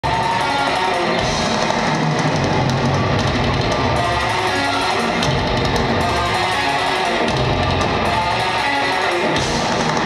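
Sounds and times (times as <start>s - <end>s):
live heavy rock band: 0.0s - 10.0s.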